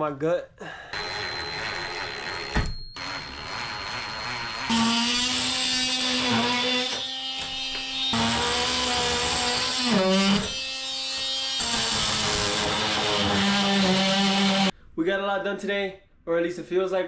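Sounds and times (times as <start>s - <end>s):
power drill whining: 0.9s - 14.7s.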